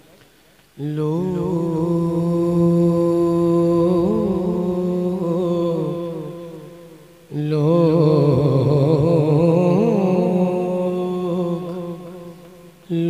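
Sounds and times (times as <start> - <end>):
man singing ornamented phrases: 0.8 - 13.0.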